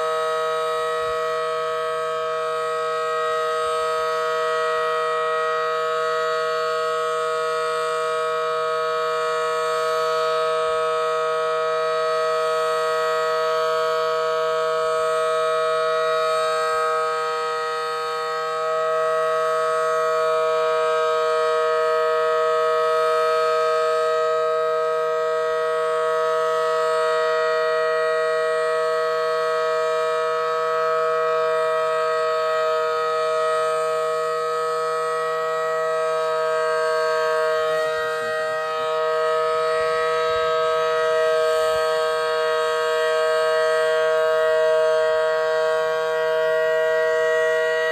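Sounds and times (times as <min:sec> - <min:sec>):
warning siren steady two-note chord: 0:00.0 - 0:47.9.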